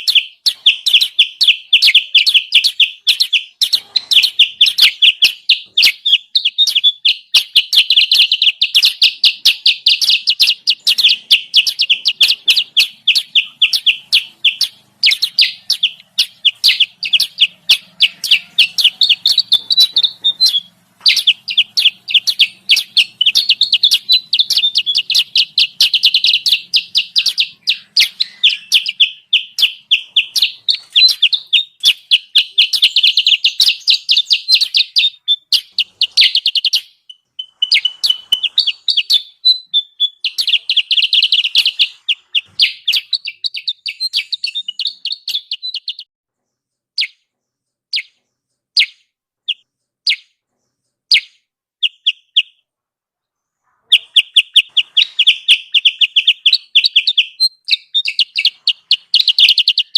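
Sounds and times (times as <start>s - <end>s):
rapid high bird chirps: 0.0s - 59.9s.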